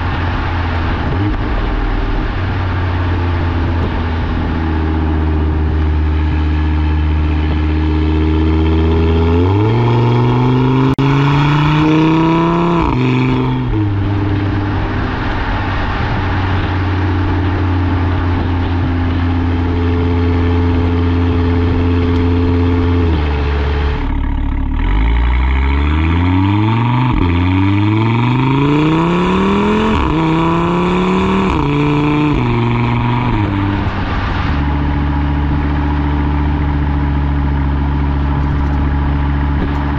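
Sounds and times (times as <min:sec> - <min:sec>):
car engine revving through exhaust: 0:00.0 - 0:39.9.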